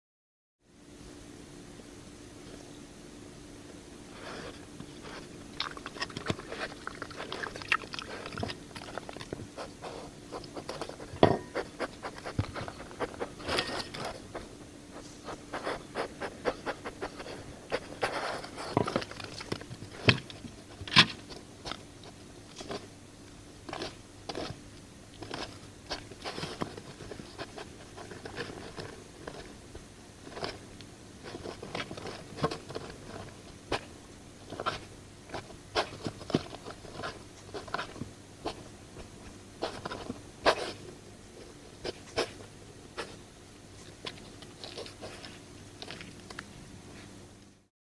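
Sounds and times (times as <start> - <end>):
badger chewing and scratching: 4.2 - 22.9, 23.6 - 47.1.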